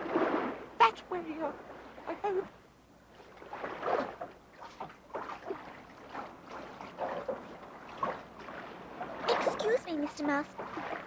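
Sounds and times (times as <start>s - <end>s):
water splashing from swimming: 0.0s - 11.0s.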